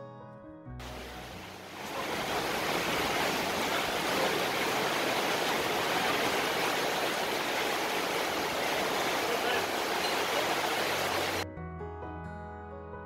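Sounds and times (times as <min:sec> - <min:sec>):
heavy rain pouring: 0:00.8 - 0:11.4.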